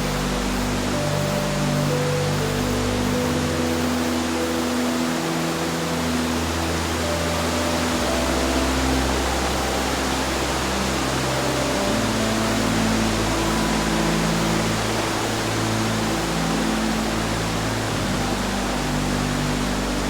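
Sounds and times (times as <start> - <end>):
low musical drone: 0.0 - 20.0
mountain stream water flowing: 0.0 - 20.0.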